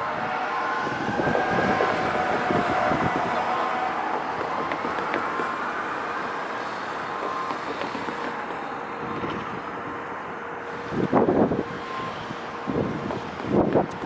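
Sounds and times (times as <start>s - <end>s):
rumble of passing vehicles: 0.0s - 14.0s.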